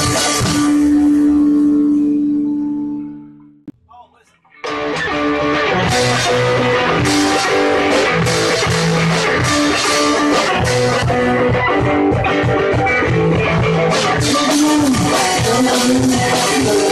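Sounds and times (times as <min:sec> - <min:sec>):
rock music with guitar and drums: 0:00.0 - 0:03.1, 0:04.4 - 0:16.9.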